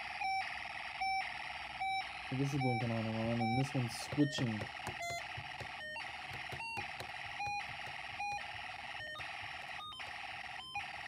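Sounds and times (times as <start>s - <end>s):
harsh electronic buzz: 0.0s - 11.0s.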